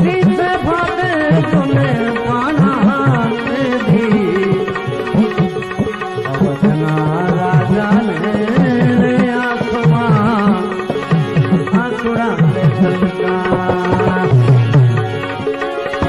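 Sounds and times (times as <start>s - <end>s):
tabla playing fast rhythm: 0.0s - 16.0s.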